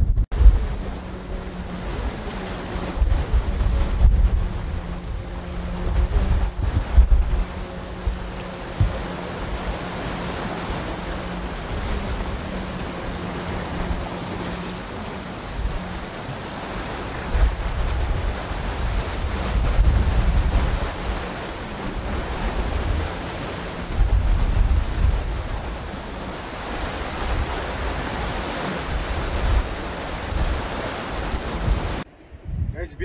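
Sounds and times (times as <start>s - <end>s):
sea and surf rushing: 0.0s - 33.0s
wind buffeting the microphone: 0.0s - 33.0s.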